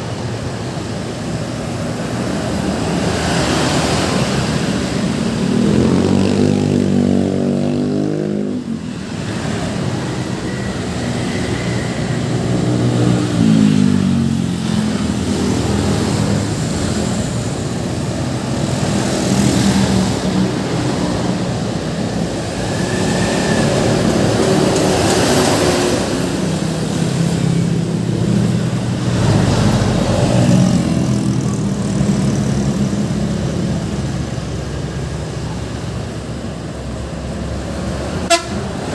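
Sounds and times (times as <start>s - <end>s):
heavy engine drone: 0.0s - 38.9s
road traffic passing: 0.0s - 38.9s.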